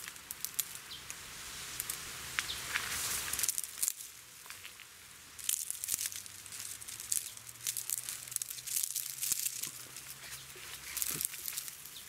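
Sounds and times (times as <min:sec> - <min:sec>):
dry palm fronds rustling: 0:00.0 - 0:12.0.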